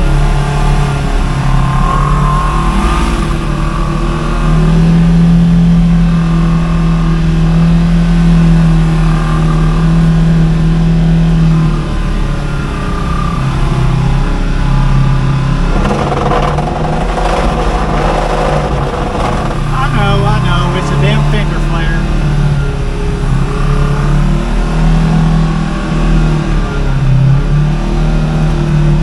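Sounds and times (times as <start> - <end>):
off-road vehicle engine running: 0.0 - 29.0.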